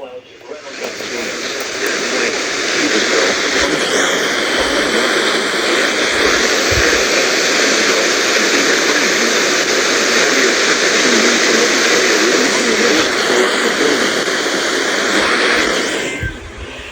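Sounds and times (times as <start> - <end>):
radio static hiss: 0.0 - 16.9.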